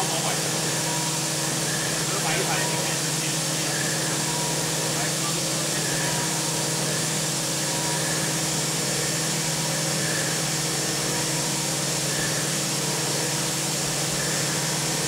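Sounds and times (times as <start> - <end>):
constant hiss: 0.0 - 15.0
milling machine hum: 0.0 - 15.0.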